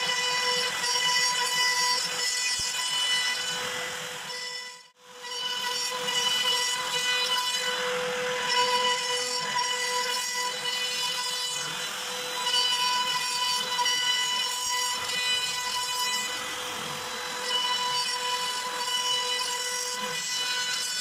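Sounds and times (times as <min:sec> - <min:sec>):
router bit cutting wood: 0:00.0 - 0:21.0
router running high whine: 0:00.0 - 0:21.0.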